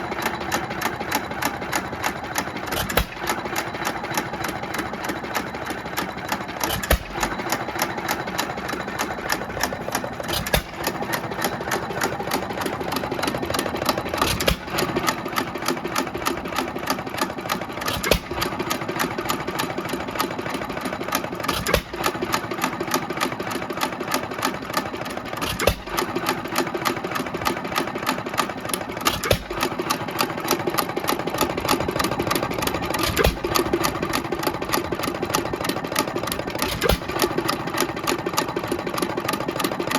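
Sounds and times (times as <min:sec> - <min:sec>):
hit-and-miss engine clattering: 0:00.0 - 0:39.9.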